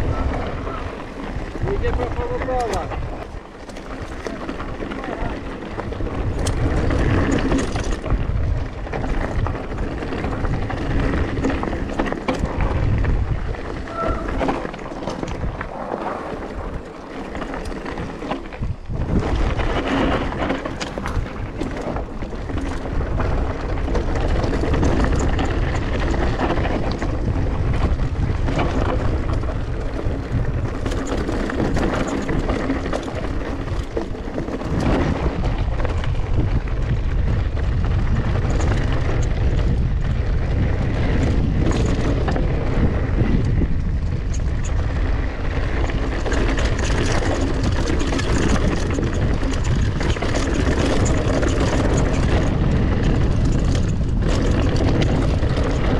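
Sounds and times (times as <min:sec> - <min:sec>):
bike rattling and knocking: 0:00.0 - 0:55.9
bike tyres rumbling: 0:00.0 - 0:55.9
wind rush on microphone: 0:00.0 - 0:55.9.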